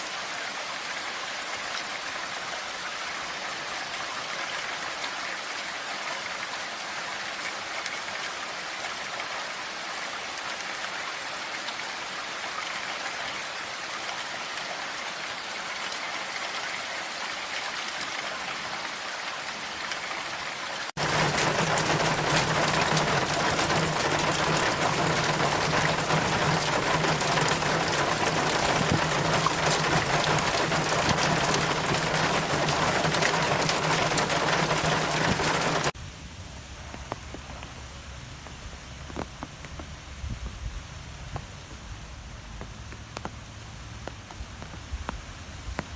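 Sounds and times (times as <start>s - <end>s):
heavy rain: 0.0s - 45.9s
light rain dripping: 0.0s - 45.9s.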